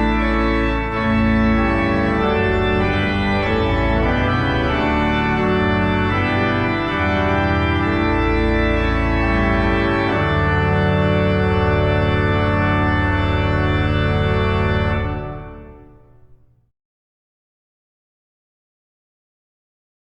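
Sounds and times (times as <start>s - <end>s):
church organ chords: 0.0s - 16.6s.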